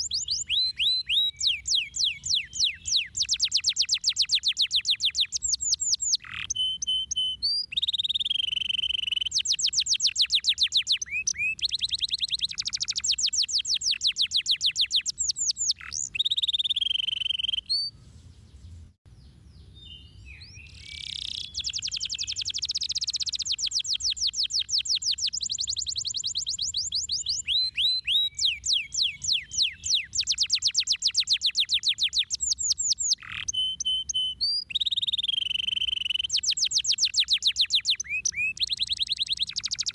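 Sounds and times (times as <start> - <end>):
canary singing trills: 0.0 - 18.0, 19.2 - 39.9.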